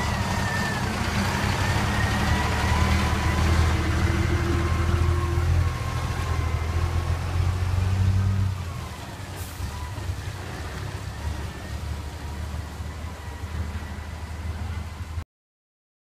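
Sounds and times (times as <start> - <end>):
diesel truck engine droning: 0.0 - 15.2.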